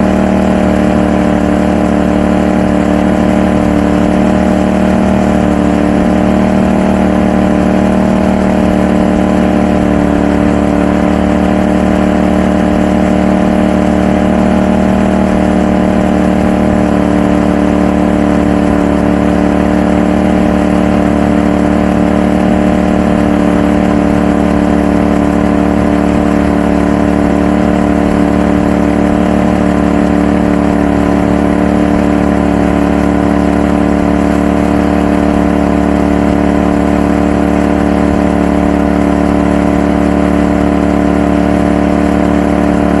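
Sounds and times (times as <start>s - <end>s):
boat motor droning: 0.0s - 43.0s.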